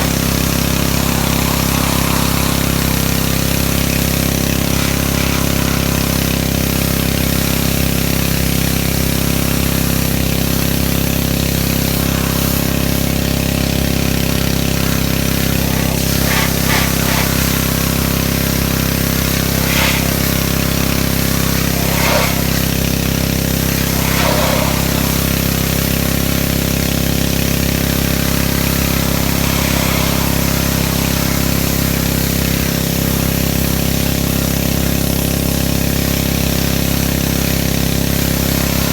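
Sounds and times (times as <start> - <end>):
hiss of water spray: 0.0 - 38.9
pressure washer engine drone: 0.0 - 38.9.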